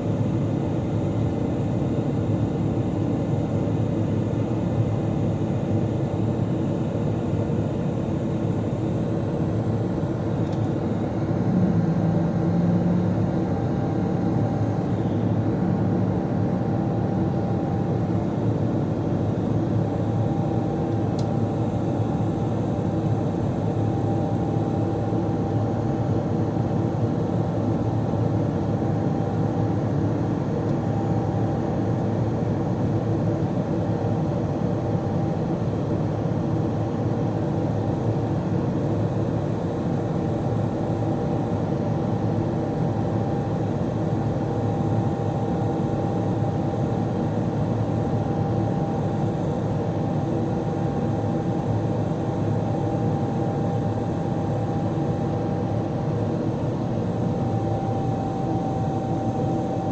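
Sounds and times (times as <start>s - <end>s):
jet engines droning in cabin: 0.0s - 59.9s.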